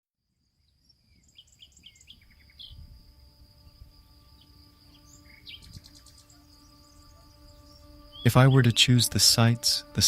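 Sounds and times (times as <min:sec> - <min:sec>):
insect drone: 0:00.2 - 0:10.0
bird chirps: 0:00.4 - 0:10.0.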